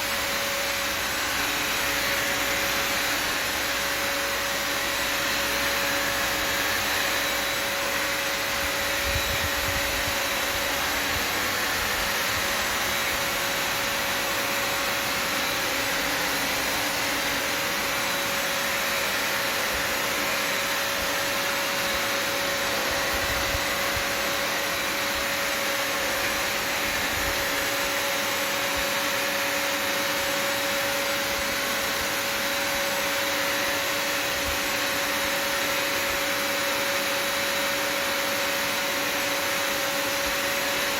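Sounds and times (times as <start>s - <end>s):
vacuum motor running: 0.0s - 40.9s.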